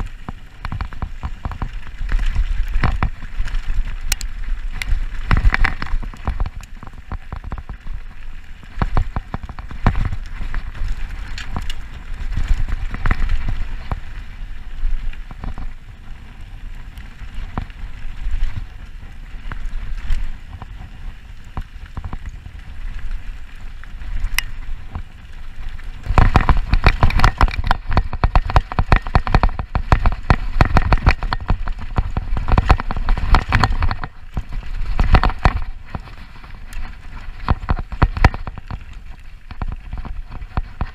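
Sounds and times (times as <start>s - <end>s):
bike rattling and knocking: 0.0s - 40.9s
wind rumbling on microphone: 0.0s - 40.9s.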